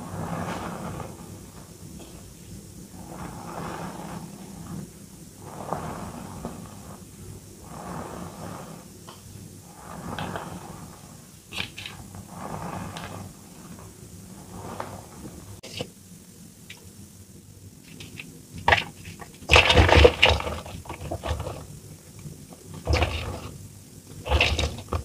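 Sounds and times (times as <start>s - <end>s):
hands kneading powdery chalk: 0.0s - 16.0s, 17.8s - 25.0s.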